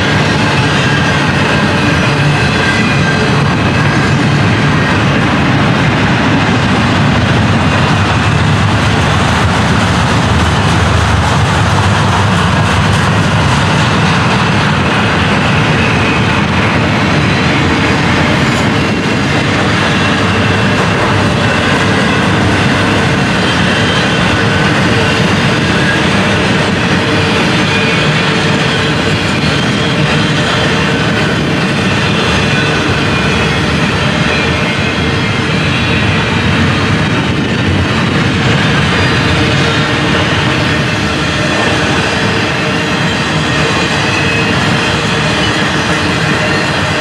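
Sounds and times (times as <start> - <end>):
freight train wheels rumbling: 0.0 - 47.0.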